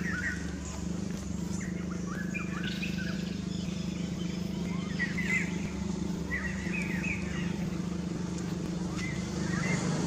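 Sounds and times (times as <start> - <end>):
high chirping calls: 0.0 - 10.0
low mechanical hum: 0.0 - 10.0.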